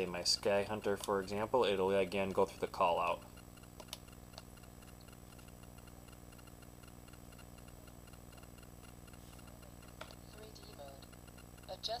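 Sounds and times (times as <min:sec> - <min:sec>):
faint steady hum: 0:00.0 - 0:12.0
soft regular ticking: 0:00.0 - 0:12.0.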